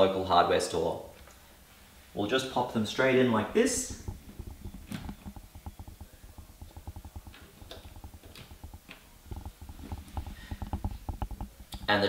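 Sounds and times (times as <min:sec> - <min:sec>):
soft rustling handling noise: 0:01.1 - 0:12.0.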